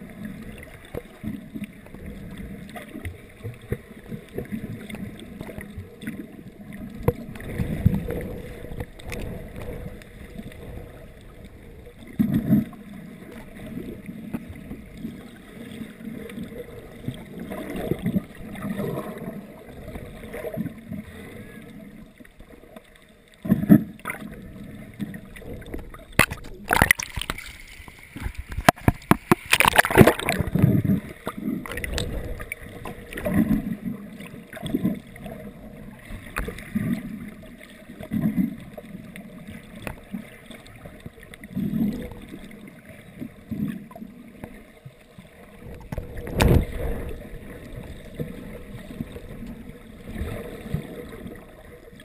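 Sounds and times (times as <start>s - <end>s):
underwater gurgling and sloshing: 0.0s - 52.0s.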